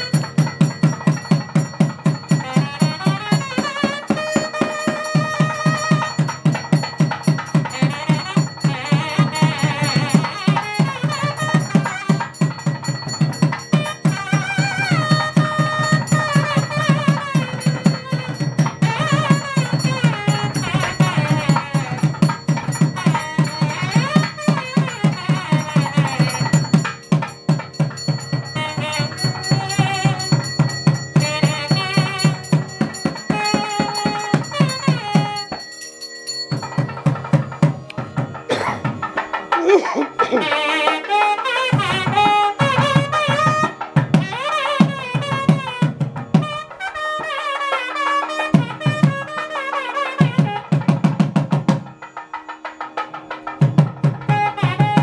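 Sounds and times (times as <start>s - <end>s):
rapid drumming: 0.0s - 55.0s
wavering melody: 0.0s - 55.0s.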